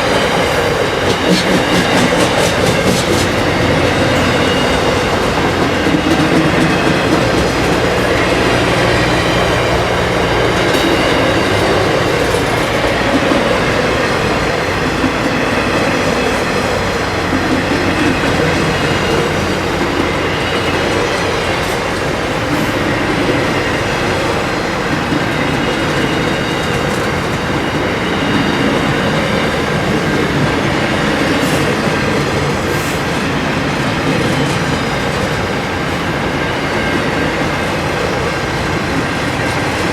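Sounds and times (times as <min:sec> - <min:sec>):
freight train rumbling past: 0:00.0 - 0:39.9
wheels clickety-clack over track: 0:00.0 - 0:39.9.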